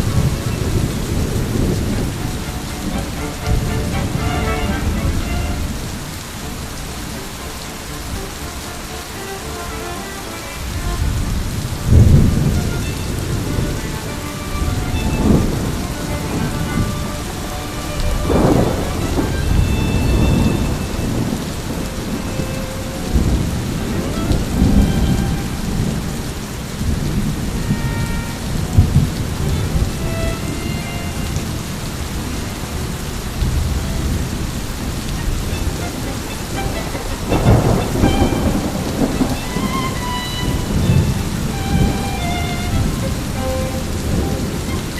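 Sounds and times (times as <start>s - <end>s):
heavy rain: 0.0s - 44.9s
thunder rumbling: 0.0s - 44.9s.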